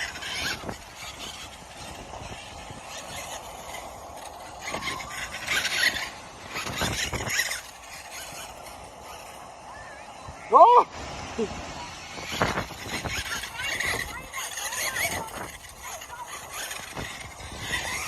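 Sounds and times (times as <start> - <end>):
toy truck electric motor whining: 0.0 - 18.0.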